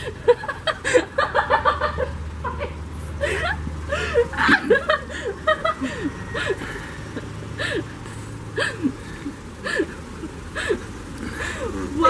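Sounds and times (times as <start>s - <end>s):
stifled breathy laughter: 0.0s - 12.0s.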